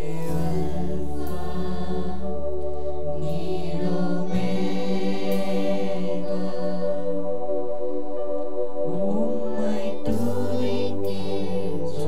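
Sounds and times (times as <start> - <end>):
group singing devotional song: 0.0 - 12.0
held accompaniment chords: 0.0 - 12.0.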